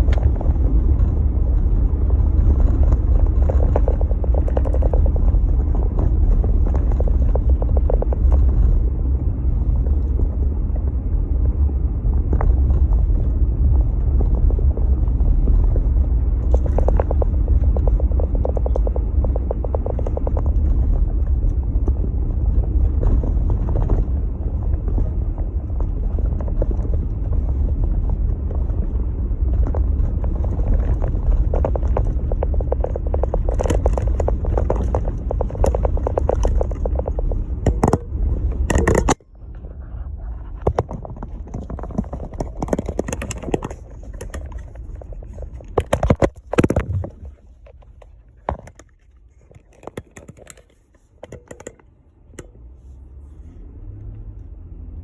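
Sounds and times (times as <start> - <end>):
faint crackles: 0.0 - 51.5
vehicle engine low rumble: 0.0 - 55.0.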